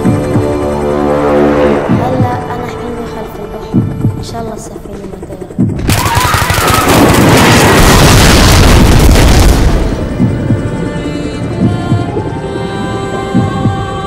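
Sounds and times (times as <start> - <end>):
dark music with low pulses: 0.0 - 14.0.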